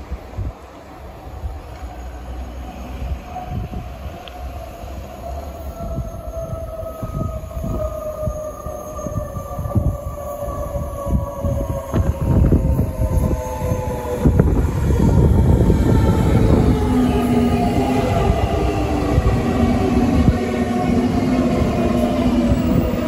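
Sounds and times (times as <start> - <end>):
electric train rumble and whine: 0.0 - 23.0.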